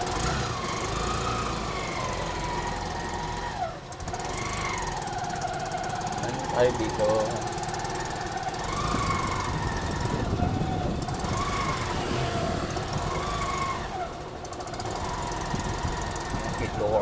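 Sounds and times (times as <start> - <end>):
traffic engines humming: 0.0 - 17.0.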